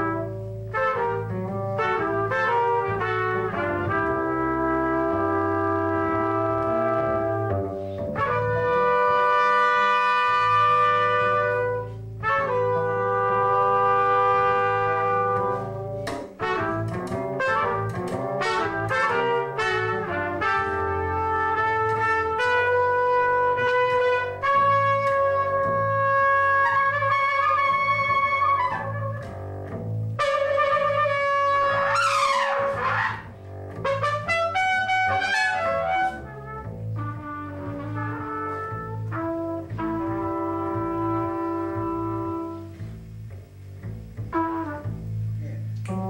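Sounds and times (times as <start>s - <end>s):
double bass: 0.0s - 46.0s
trumpets playing jazz: 0.0s - 46.0s.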